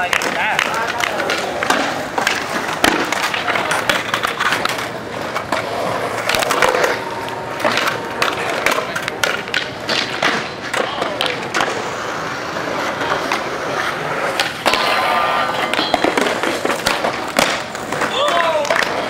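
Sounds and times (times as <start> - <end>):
skateboard wheels rolling on concrete: 0.0 - 19.0
skateboards clacking on ground: 0.0 - 19.0.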